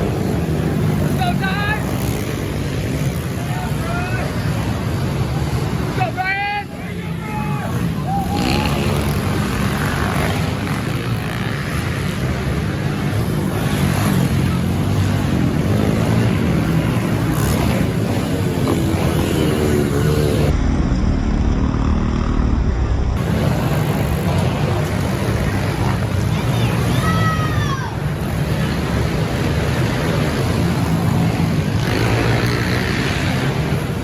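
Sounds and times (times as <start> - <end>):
dirt-bike engines revving: 0.0 - 34.0.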